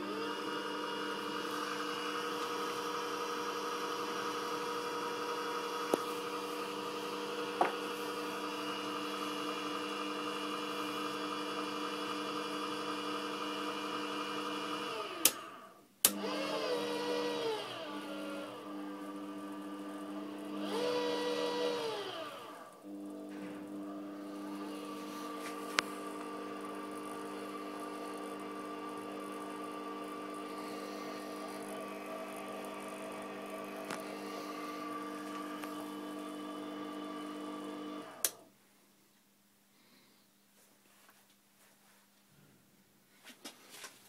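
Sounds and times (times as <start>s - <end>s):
lathe motor whining: 0.0s - 38.5s.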